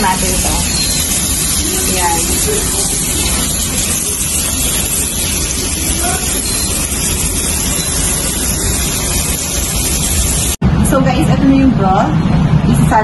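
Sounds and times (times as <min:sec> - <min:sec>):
tap water running into a pot: 0:00.0 - 0:10.6.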